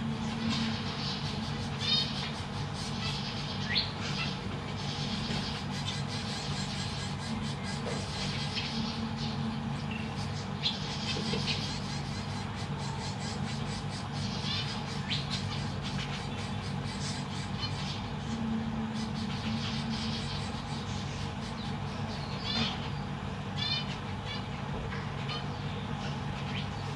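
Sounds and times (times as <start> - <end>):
finches calling: 0.0 - 26.9
steady low hum: 0.0 - 26.9.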